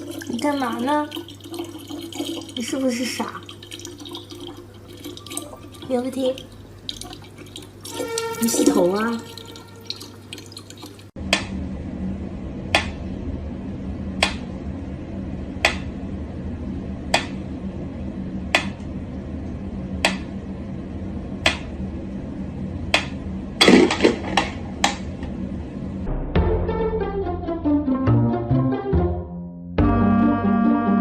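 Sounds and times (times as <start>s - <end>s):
steady low hum: 0.0s - 27.8s.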